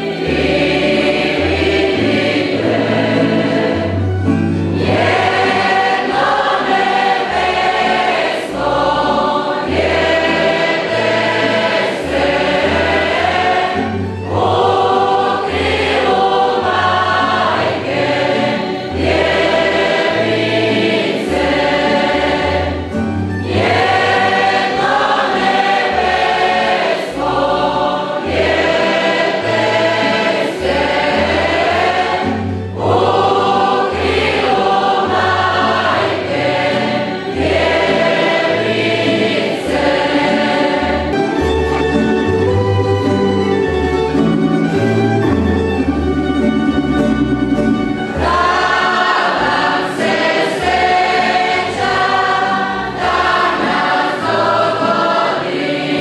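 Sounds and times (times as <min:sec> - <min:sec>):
mixed choir singing a carol: 0:00.0 - 0:56.0.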